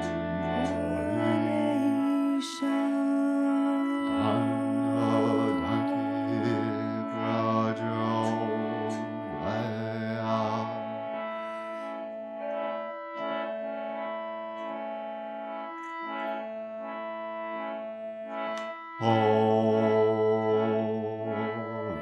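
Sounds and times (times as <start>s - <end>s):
sustained keyboard chords: 0.0s - 22.0s.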